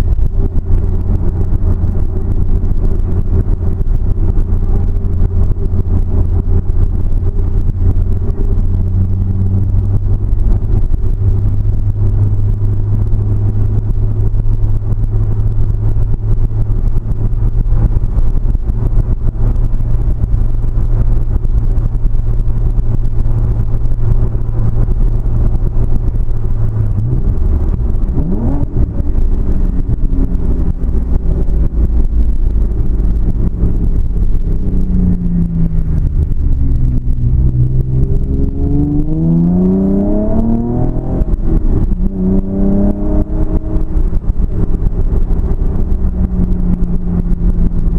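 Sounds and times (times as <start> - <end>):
car engine drone: 0.0 - 47.9
road noise: 0.0 - 47.9.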